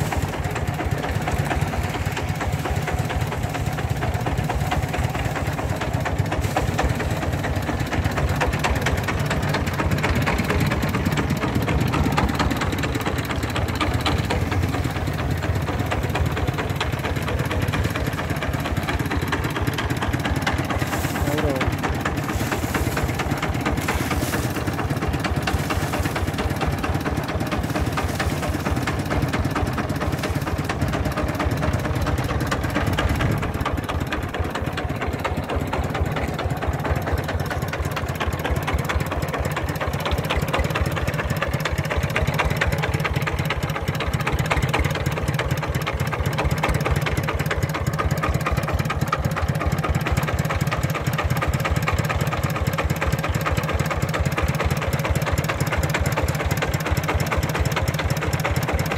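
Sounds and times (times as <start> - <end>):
old diesel engine knocking: 0.0 - 58.9.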